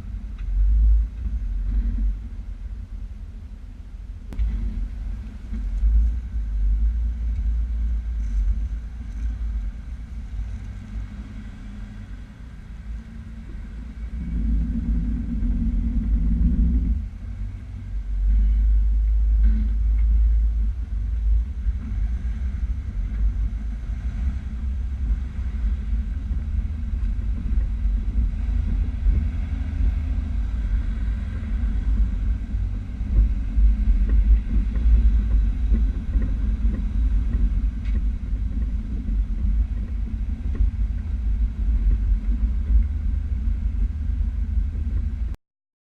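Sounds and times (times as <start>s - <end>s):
vehicle engine rumbling: 0.0s - 45.4s.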